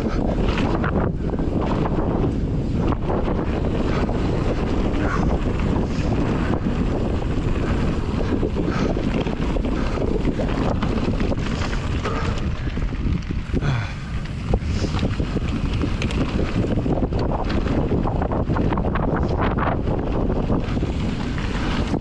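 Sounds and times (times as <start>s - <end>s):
bike rolling rumble and rattle: 0.0s - 22.0s
wind buffeting microphone: 0.0s - 22.0s.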